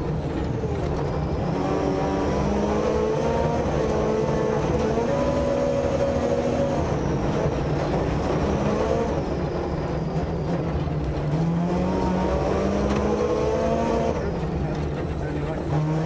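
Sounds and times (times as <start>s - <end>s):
road and tyre noise: 0.0s - 16.0s
rotary engine revving: 0.3s - 16.0s.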